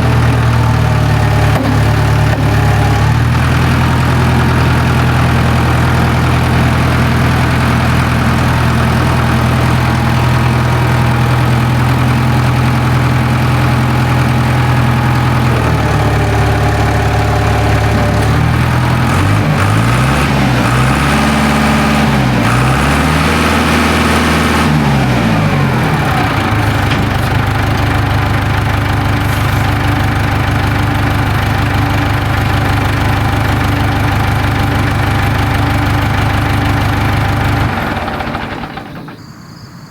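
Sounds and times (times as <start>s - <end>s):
diesel engine idling and revving: 0.0s - 39.5s.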